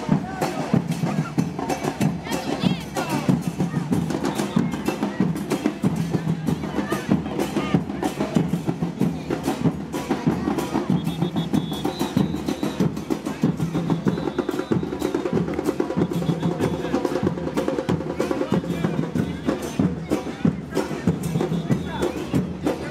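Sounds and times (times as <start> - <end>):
bass drums: 0.0 - 22.9
snare drums: 0.0 - 22.9.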